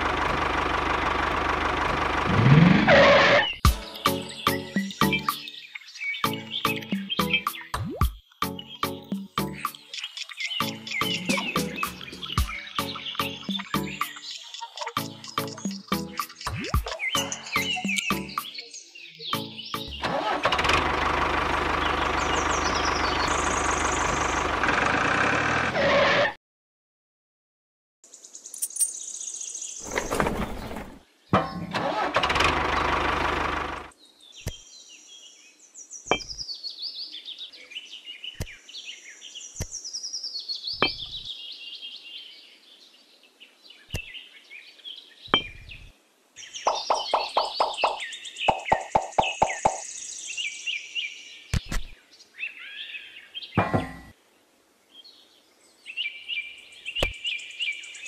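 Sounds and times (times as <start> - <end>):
birds chirping: 3.1 - 24.6, 28.2 - 54.1, 54.9 - 58.0.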